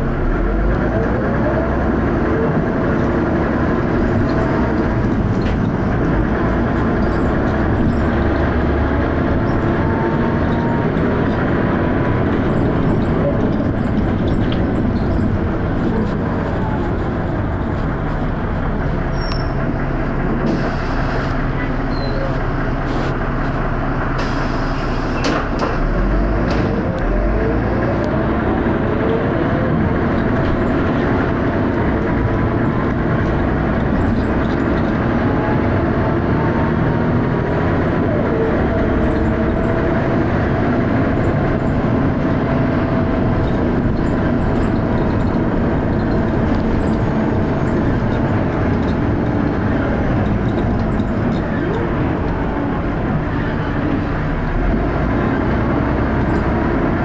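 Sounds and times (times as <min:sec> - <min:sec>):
bus engine working hard: 0:00.0 - 0:57.0.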